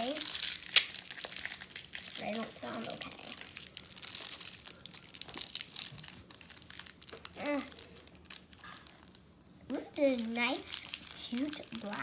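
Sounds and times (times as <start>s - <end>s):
plastic packet crinkling: 0.0s - 9.2s, 9.9s - 12.0s.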